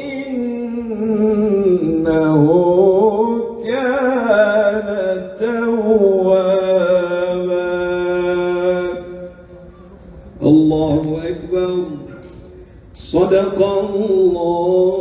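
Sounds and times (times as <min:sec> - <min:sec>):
man chanting over loudspeaker: 0:00.0 - 0:09.8, 0:10.4 - 0:15.0.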